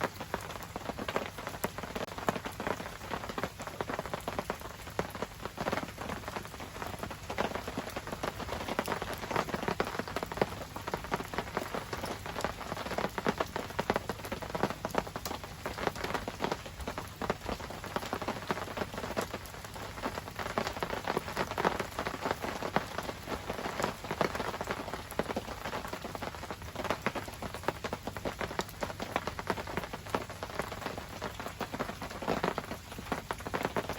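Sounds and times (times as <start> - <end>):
rain pattering: 0.0 - 33.9.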